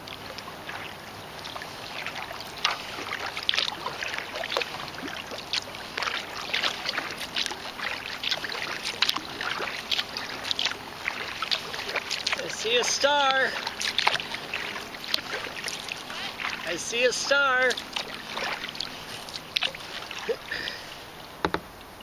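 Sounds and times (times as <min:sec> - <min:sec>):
paddle splashing in water: 0:00.0 - 0:21.7.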